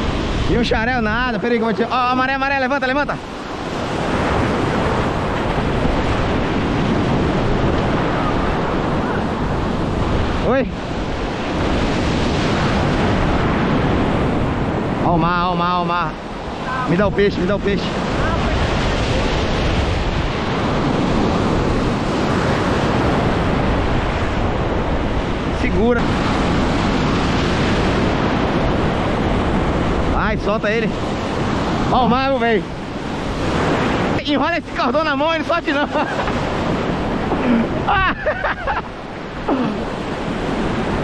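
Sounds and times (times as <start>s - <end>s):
ocean surf breaking over rocks: 0.0s - 41.0s
wind buffeting microphone: 0.0s - 41.0s.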